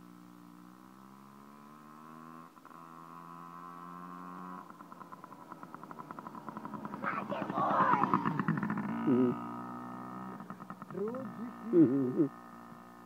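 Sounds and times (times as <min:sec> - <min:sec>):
small motorcycle engine approaching: 0:00.0 - 0:13.0.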